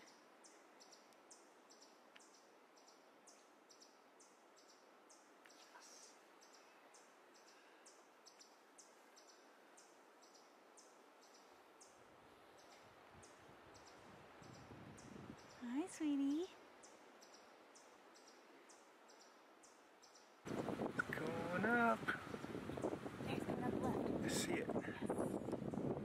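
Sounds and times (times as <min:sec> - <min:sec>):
soft background hiss: 0:00.0 - 0:24.7.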